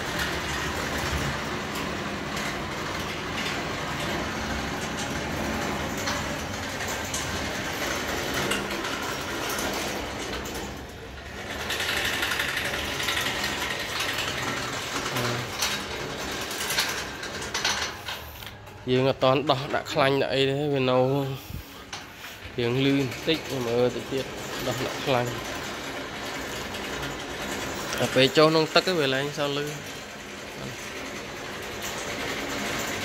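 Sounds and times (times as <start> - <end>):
bicycle crank mechanical whirring: 0.0 - 33.0.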